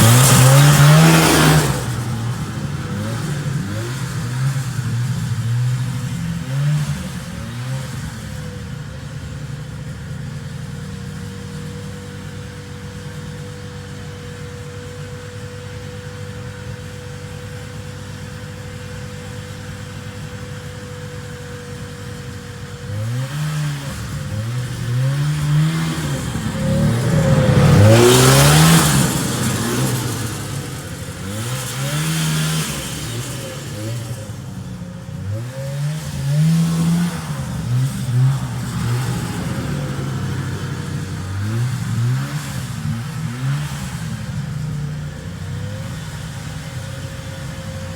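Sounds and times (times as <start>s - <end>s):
snowmobile engine revving: 0.0s - 10.1s, 19.0s - 47.9s.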